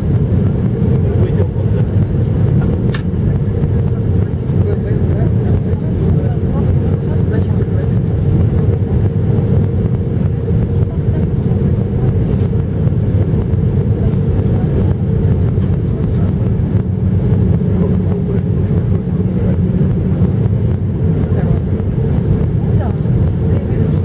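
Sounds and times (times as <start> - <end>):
airliner cabin rumble: 0.0 - 24.0
steady droning tone: 0.0 - 24.0.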